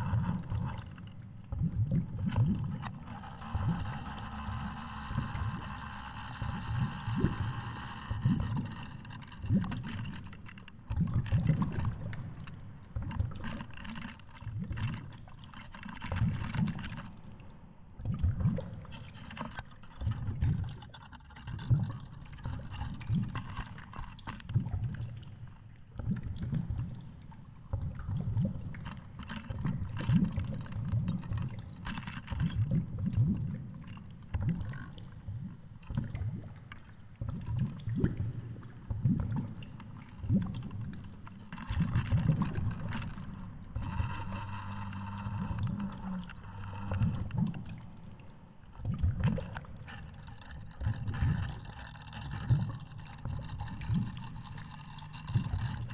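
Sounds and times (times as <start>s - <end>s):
muffled underwater surges and thumps: 0.0s - 55.9s.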